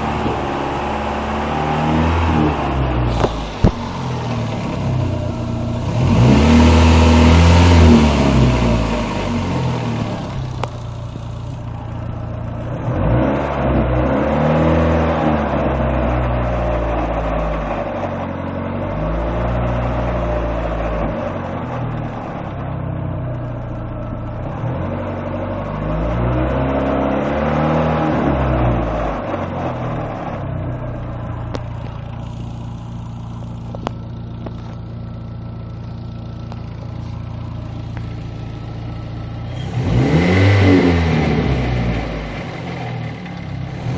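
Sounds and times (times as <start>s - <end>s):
car engine idling: 0.0s - 27.3s, 28.5s - 43.9s
car engine revving: 0.0s - 43.9s.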